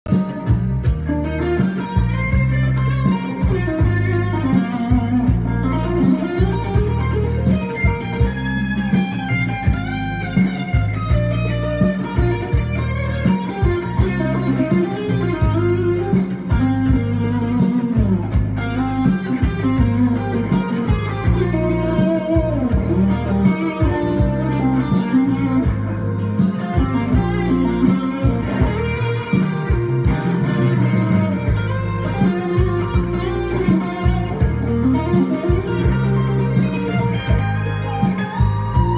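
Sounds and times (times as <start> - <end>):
bass guitar: 0.0 - 38.9
drums: 0.1 - 38.9
electric guitar solo: 0.1 - 38.9.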